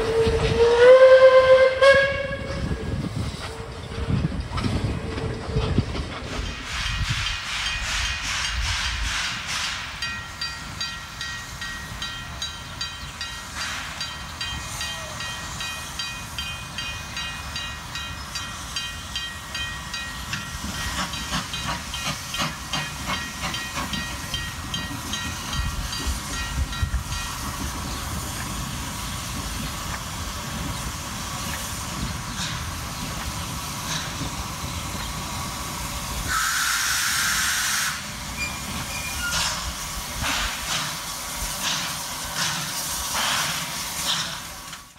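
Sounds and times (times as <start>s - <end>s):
steam locomotive exhaust beats: 0.0s - 44.9s
steam hiss: 2.4s - 44.9s.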